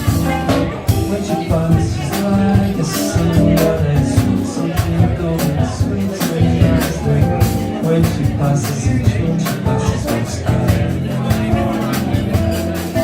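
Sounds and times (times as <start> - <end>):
percussion beat: 0.0 - 13.0
pitched instrumental notes: 0.0 - 13.0.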